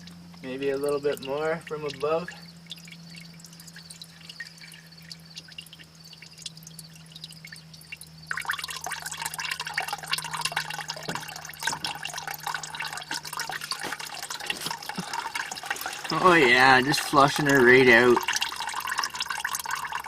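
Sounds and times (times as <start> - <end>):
faint dripping: 0.0 - 20.0
liquid pouring and splashing: 0.0 - 20.0.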